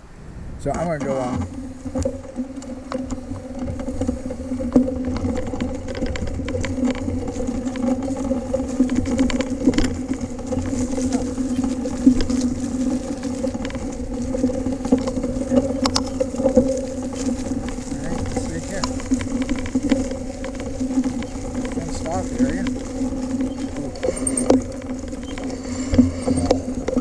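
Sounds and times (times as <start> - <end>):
mountain bike tyres humming: 0.0 - 27.0
bike clicking and rattling: 0.6 - 27.0.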